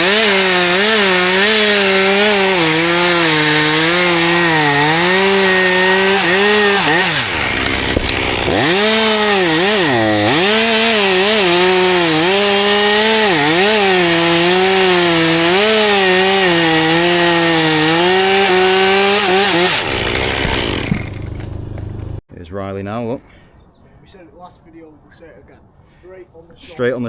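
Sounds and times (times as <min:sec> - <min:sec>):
chainsaw cutting wood: 0:00.0 - 0:22.2.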